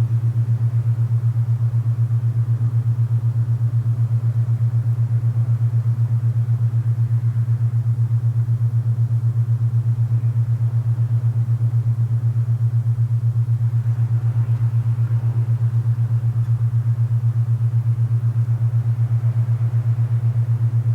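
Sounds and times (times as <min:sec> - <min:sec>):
throbbing low hum tone: 0:00.0 - 0:20.9.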